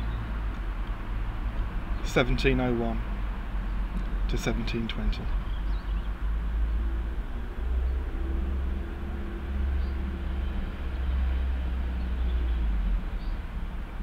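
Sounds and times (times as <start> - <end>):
faint engine hum: 0.0 - 14.0
vehicle passing rumble: 0.0 - 14.0.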